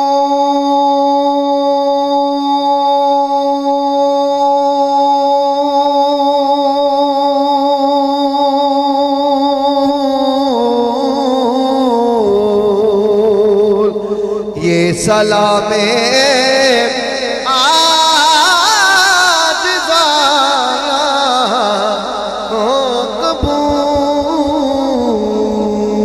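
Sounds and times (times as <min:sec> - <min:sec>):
man singing a long note: 0:00.0 - 0:26.0.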